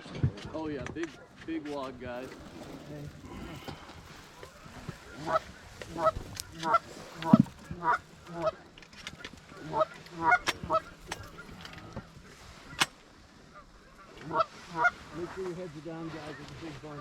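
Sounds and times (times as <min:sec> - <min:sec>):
goose honking: 0:02.3 - 0:17.0.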